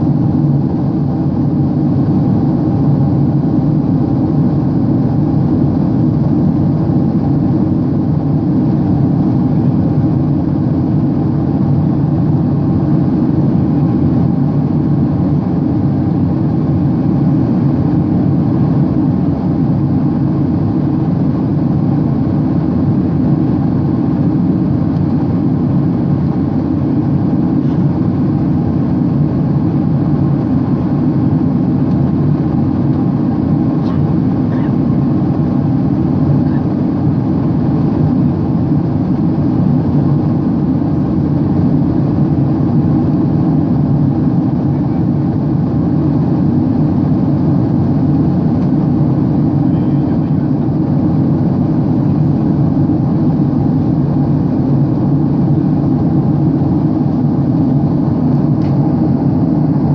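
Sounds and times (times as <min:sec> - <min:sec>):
jet cabin engine drone: 0:00.0 - 0:59.9.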